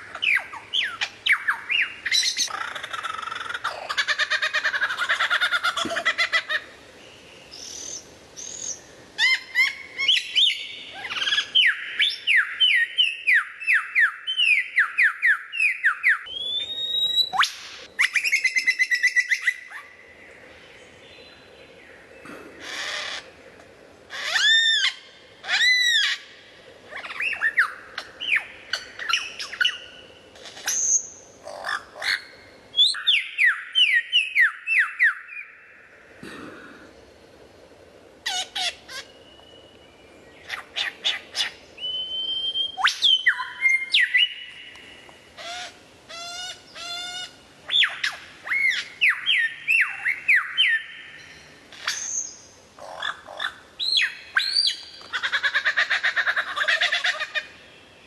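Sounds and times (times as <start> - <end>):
birds calling and singing: 0.0 - 37.3, 38.2 - 58.0.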